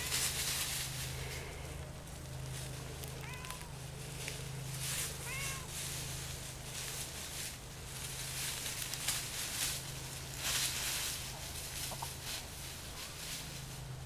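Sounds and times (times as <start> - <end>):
chickens scratching in dry leaves: 0.0 - 14.0.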